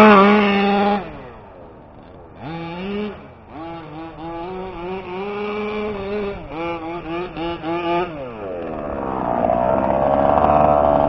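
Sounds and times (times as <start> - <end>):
small two-stroke engine revving: 0.0 - 11.0.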